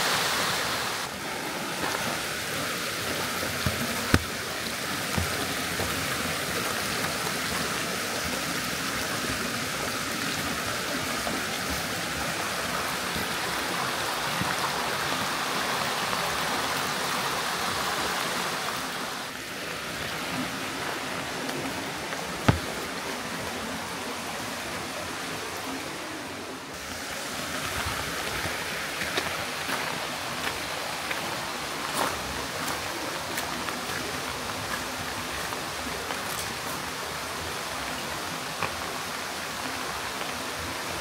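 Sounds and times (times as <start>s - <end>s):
stream rushing and splashing: 0.0s - 41.0s.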